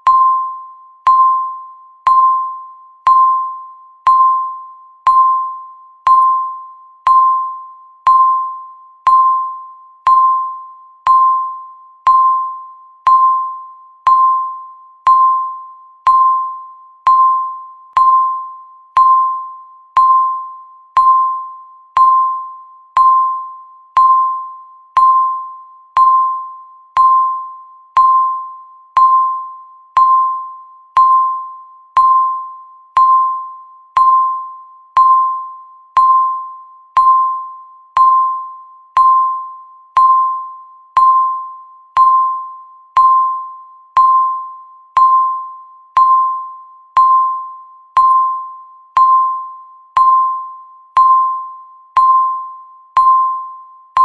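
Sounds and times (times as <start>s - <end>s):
countdown timer beeps: 0.0s - 54.0s.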